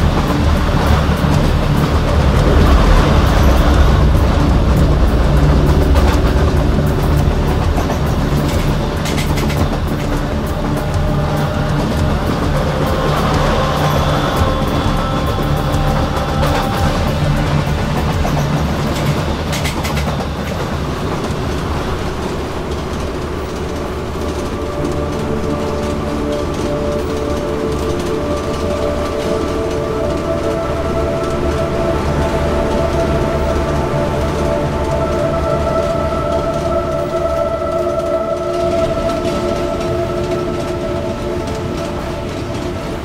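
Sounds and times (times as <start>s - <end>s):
train rumbling past: 0.0s - 43.0s
wheels clacking on rails: 0.0s - 43.0s.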